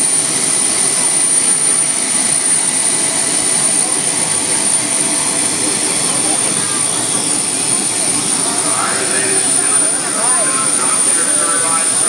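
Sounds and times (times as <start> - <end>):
jet turbine engine roaring: 0.0 - 12.0.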